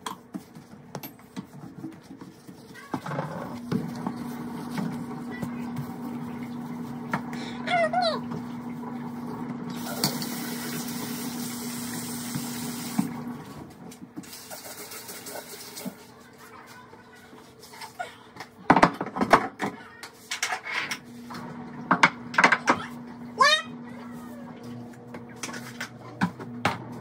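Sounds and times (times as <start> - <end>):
scrubbing and wiping sink: 0.0 - 18.6, 23.8 - 27.0.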